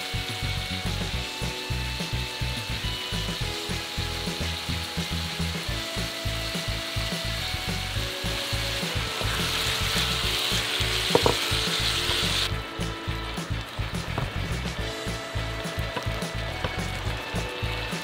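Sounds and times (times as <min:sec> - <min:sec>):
background music with steady beat: 0:00.0 - 0:18.0
meat sizzling in a frying pan: 0:00.0 - 0:18.0.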